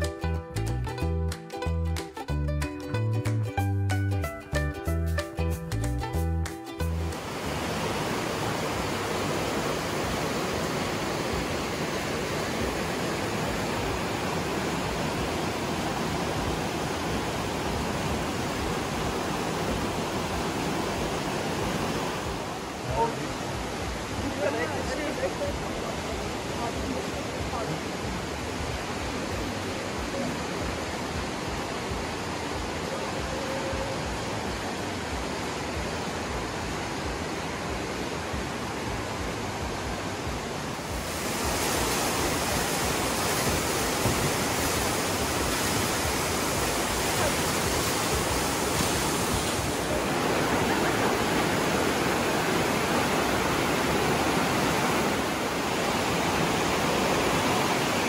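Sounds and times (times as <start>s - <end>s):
white water rushing through gorge: 7.0s - 58.0s.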